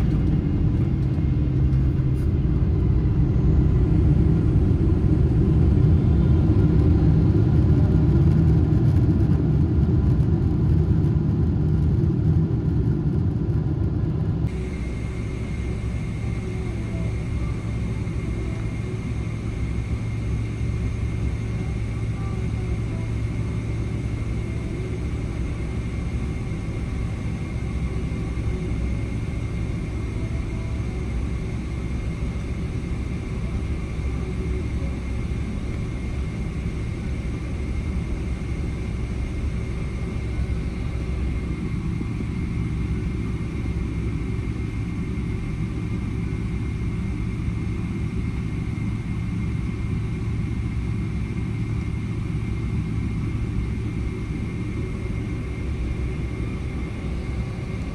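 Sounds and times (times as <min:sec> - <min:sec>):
airliner cabin rumble: 0:00.0 - 0:57.9.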